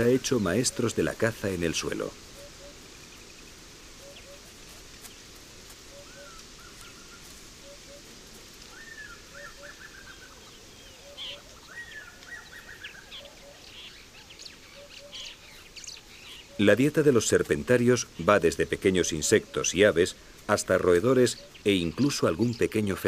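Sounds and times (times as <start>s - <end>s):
natural background: 0.0s - 23.0s.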